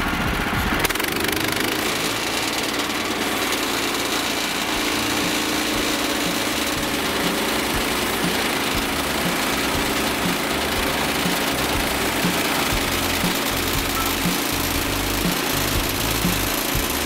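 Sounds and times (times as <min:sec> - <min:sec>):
sawmill engine starting and idling: 0:00.0 - 0:17.0.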